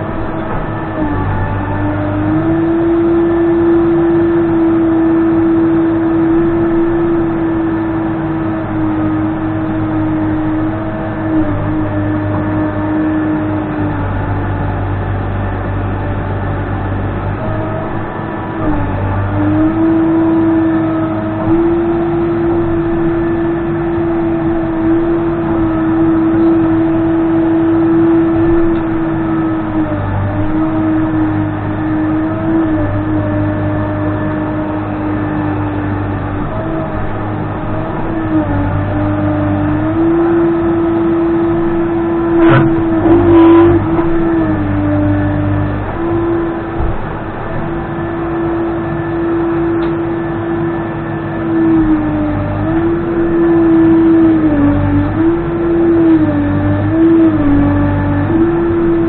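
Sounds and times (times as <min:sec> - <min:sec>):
diesel engine at high revs: 0:00.0 - 0:59.0
hydraulic whine: 0:00.0 - 0:59.0.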